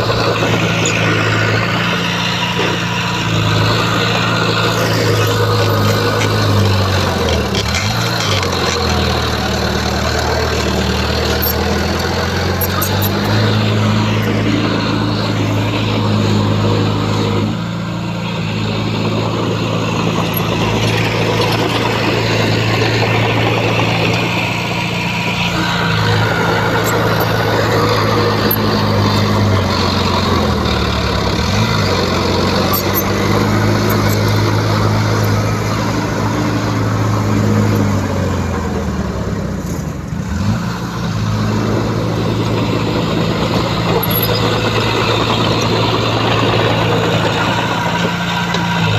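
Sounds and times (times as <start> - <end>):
heavy diesel machinery running: 0.0 - 48.9.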